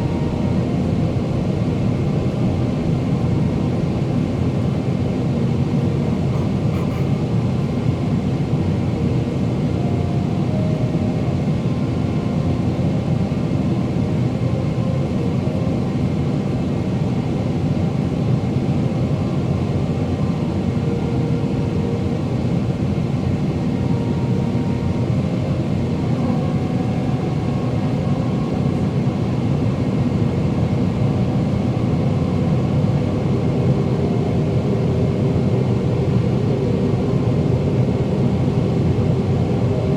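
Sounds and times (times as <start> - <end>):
jet engine roar: 0.0 - 39.9.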